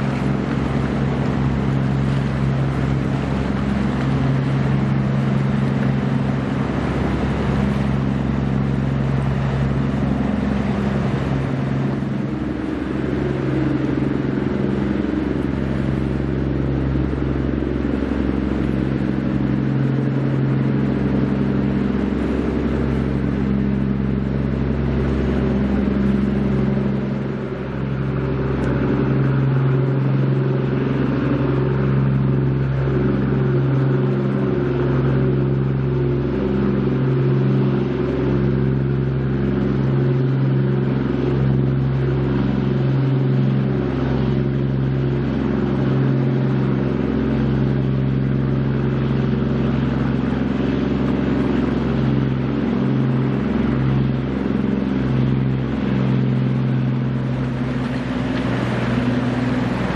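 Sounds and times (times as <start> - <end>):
boat engines droning: 0.0 - 59.9.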